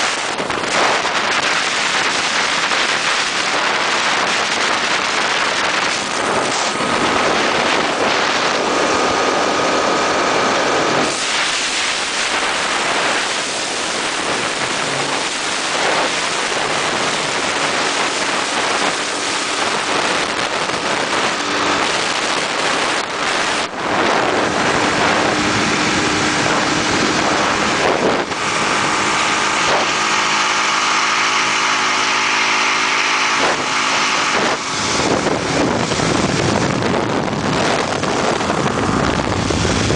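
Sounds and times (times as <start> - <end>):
rushing wind and road noise: 0.0 - 39.9
vehicle engine running: 0.0 - 39.9.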